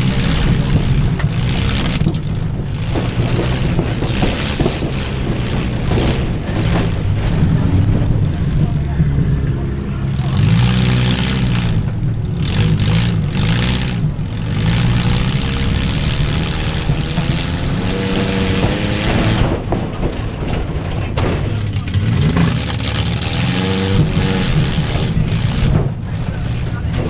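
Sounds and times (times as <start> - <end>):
car engines revving: 0.0 - 27.0
sharp knocks: 0.1 - 8.6, 10.5 - 26.2.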